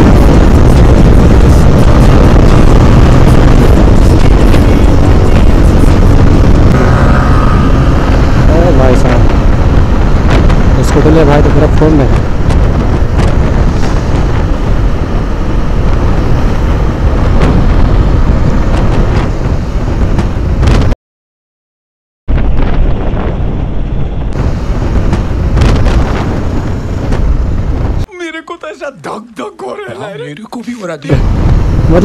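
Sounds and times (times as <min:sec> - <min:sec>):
wind buffeting microphone: 0:00.0 - 0:21.0, 0:22.3 - 0:28.1, 0:31.1 - 0:32.0.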